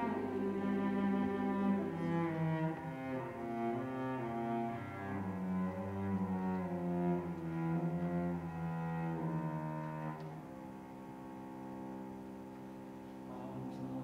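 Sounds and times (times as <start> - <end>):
cello melody: 0.0 - 14.0.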